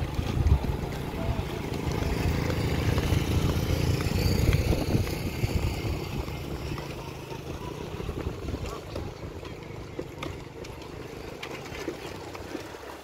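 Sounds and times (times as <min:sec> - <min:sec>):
motorcycles riding past: 0:00.0 - 0:12.9.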